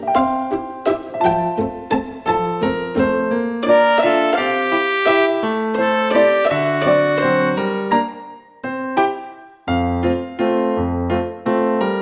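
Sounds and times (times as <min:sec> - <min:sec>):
simple piano melody: 0:00.0 - 0:12.0.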